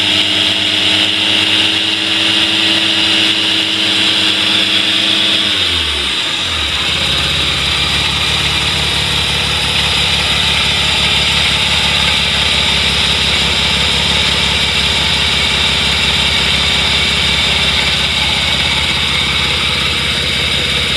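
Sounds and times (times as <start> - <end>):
rotary engine idling: 0.0 - 20.9.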